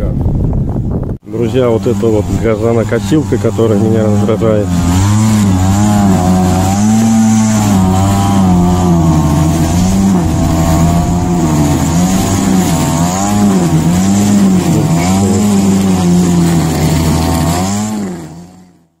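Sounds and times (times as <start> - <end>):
lawn mower engine running: 1.2 - 19.0.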